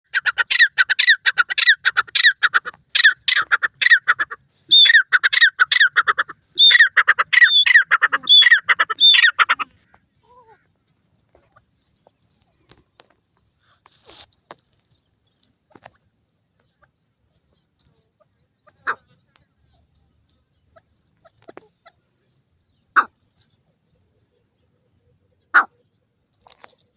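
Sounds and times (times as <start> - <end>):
francolin calling: 0.1 - 26.8.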